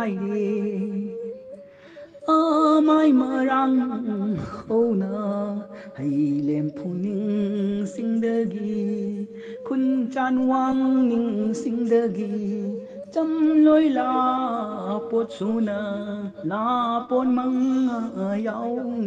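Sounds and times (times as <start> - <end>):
person singing chant-like melody: 0.0 - 19.0.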